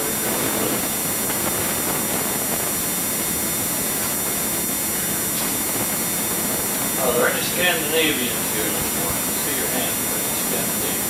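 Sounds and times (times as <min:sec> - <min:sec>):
videotape hiss: 0:00.0 - 0:11.0.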